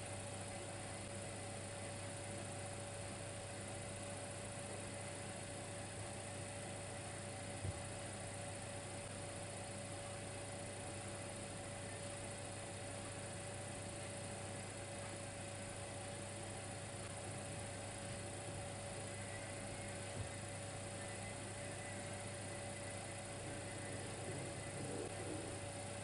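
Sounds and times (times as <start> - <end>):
electric fireplace humming: 0.0 - 26.0.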